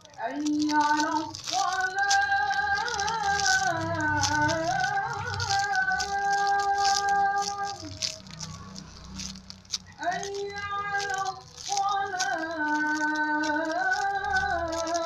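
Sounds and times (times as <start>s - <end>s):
rattling shaker beat: 0.0s - 15.0s.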